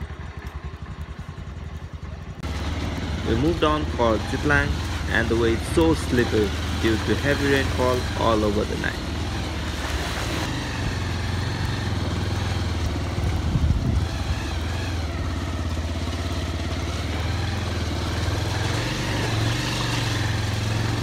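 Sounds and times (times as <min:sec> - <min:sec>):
motorcycle bumping over ruts: 0:00.0 - 0:21.0
motorcycle engine running: 0:00.0 - 0:21.0.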